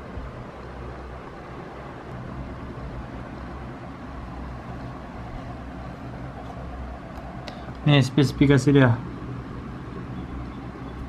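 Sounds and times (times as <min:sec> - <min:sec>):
low background rumble and hiss: 0:00.0 - 0:11.0.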